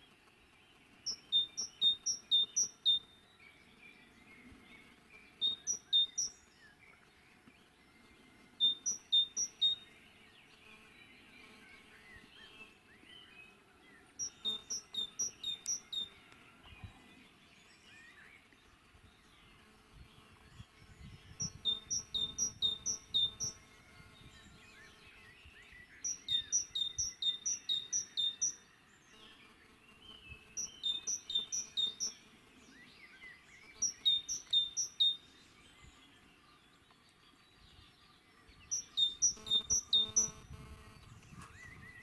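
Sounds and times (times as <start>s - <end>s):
faint bird chirps: 0.0s - 42.0s
songbird singing: 0.0s - 42.0s.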